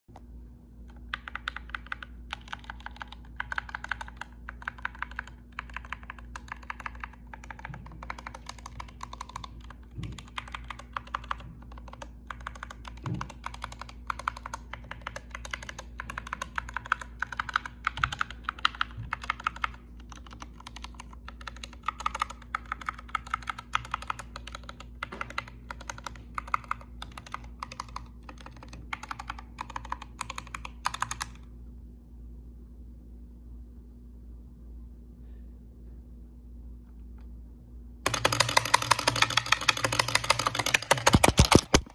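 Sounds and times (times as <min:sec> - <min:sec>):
mechanical keyboard typing: 0:00.9 - 0:31.4, 0:38.1 - 0:41.9.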